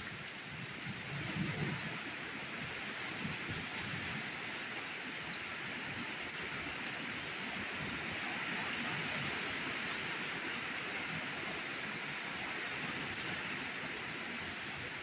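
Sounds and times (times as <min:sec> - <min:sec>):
torrential rain: 0:00.0 - 0:15.0.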